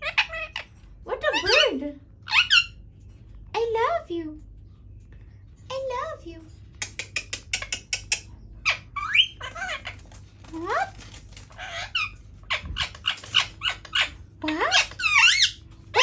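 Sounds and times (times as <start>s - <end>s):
parakeet chattering and chirping: 0.0s - 3.7s, 6.7s - 16.0s.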